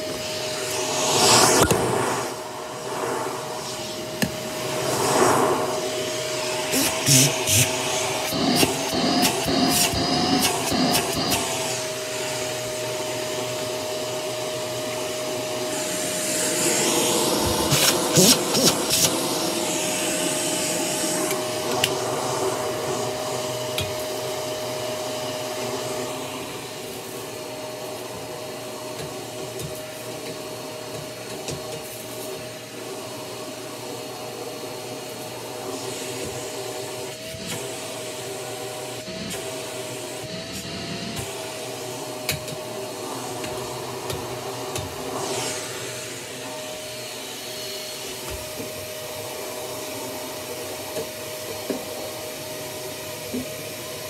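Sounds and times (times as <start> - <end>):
vacuum cleaner motor whine: 0.0 - 54.0.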